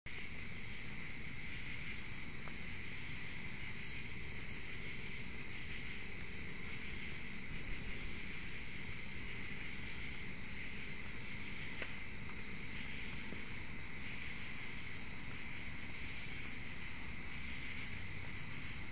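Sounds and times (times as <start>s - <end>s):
low background noise: 0.1s - 18.9s
night insects chorus: 0.1s - 18.9s.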